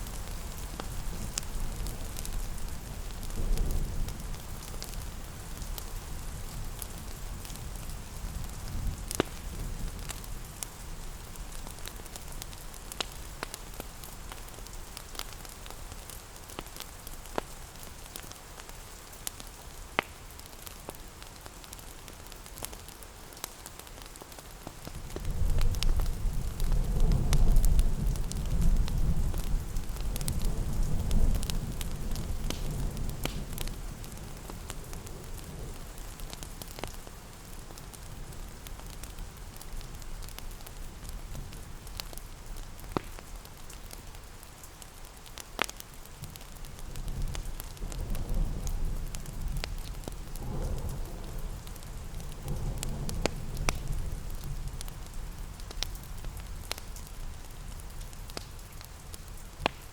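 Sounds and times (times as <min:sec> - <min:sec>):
fire crackling and popping: 0:00.0 - 0:59.9
rain pattering: 0:00.0 - 0:59.9.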